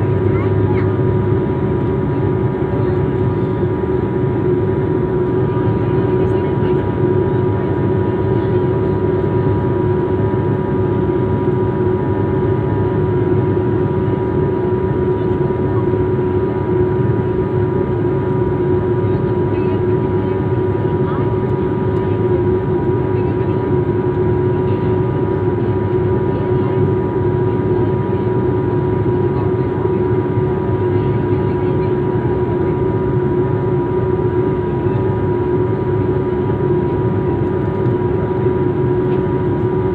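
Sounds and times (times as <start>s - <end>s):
aeroplane engine drone: 0.0s - 39.9s
constant hum: 0.0s - 39.9s.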